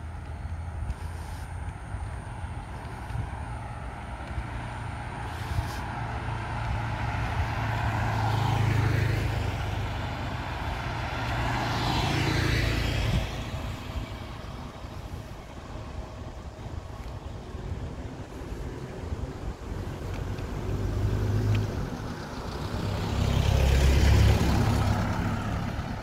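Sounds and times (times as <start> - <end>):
low engine hum: 0.0 - 26.0
vehicles passing on road: 0.0 - 26.0.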